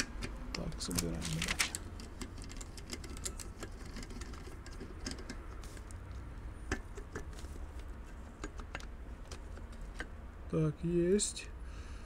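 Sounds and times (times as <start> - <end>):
hand tools and metal parts clicking: 0.0 - 10.2.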